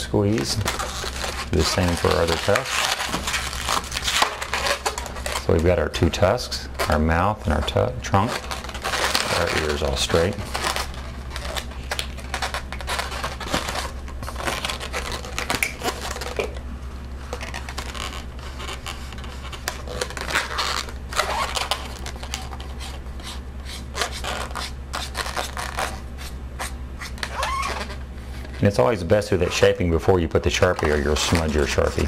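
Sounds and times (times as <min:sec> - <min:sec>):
balloons squeaking and rubbing: 0:00.0 - 0:16.4, 0:17.3 - 0:32.0.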